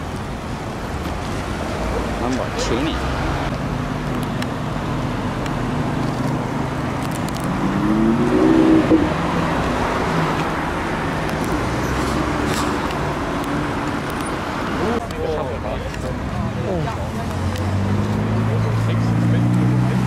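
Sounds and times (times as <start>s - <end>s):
cars driving past: 0.0s - 20.0s
engine revving: 1.4s - 15.0s, 16.9s - 20.0s.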